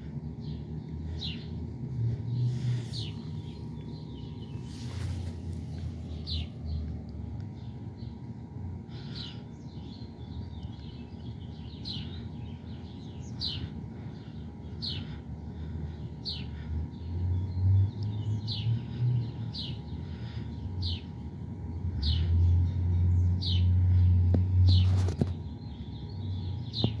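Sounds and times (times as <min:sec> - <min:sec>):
low rumble: 0:00.0 - 0:25.1
bird chirping: 0:02.2 - 0:08.3, 0:08.9 - 0:27.0.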